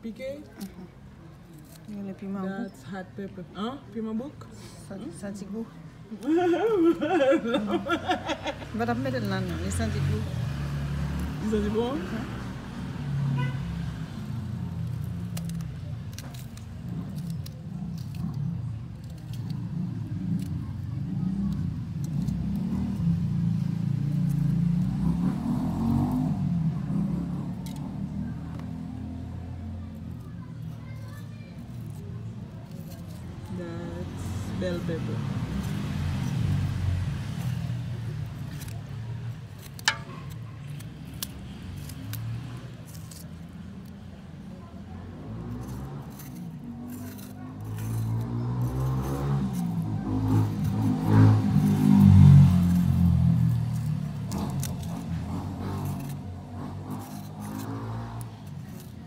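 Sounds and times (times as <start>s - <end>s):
knife cutting bell pepper: 0.4s - 2.4s, 8.2s - 59.0s.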